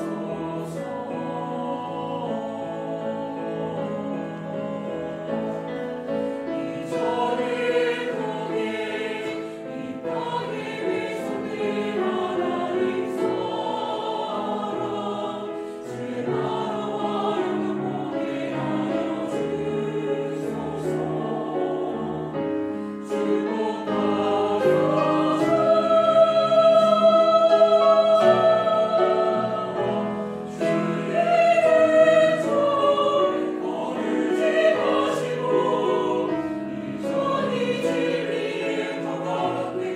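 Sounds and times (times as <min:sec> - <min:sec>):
church choir singing: 0:00.0 - 0:39.9.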